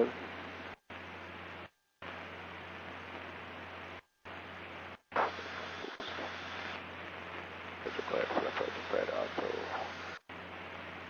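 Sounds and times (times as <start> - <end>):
cockpit cabin noise hiss: 0.0 - 11.0.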